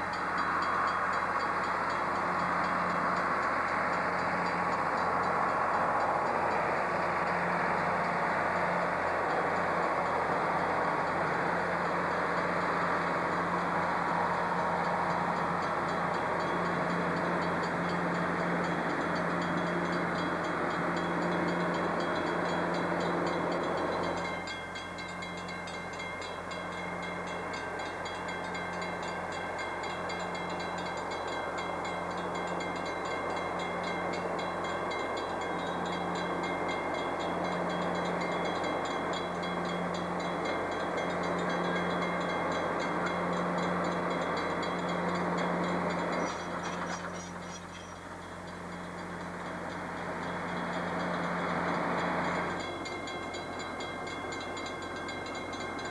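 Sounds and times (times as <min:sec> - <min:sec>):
crossing signal bell ringing: 0:00.0 - 0:55.9
train wheels rolling on track: 0:00.0 - 0:55.9.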